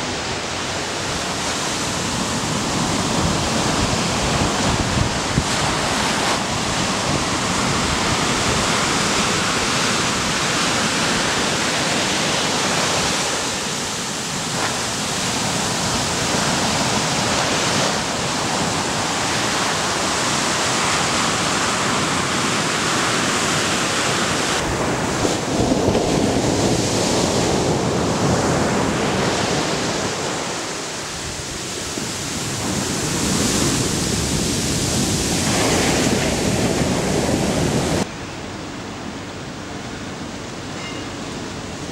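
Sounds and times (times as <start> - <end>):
ocean surf breaking: 0.0 - 38.1.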